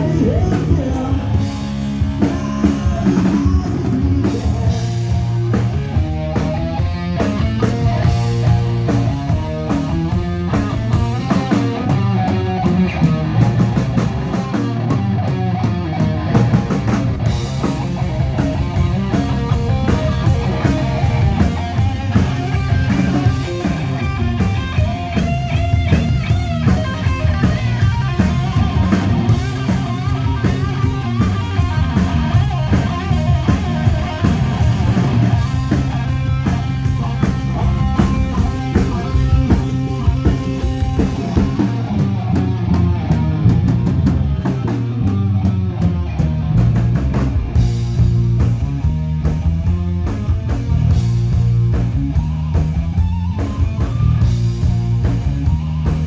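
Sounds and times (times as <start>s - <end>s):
bass line: 0.0s - 56.0s
drums: 0.0s - 56.0s
electric guitar: 0.0s - 56.0s.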